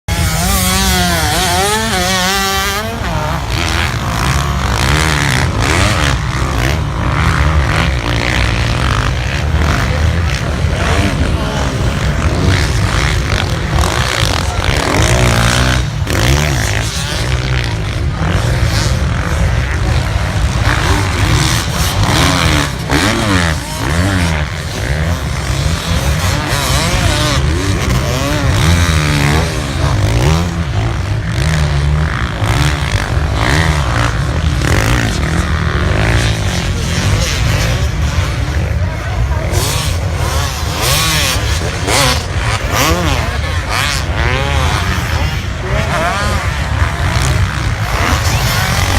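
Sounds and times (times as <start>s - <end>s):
racing motorcycles revving: 0.0s - 48.9s.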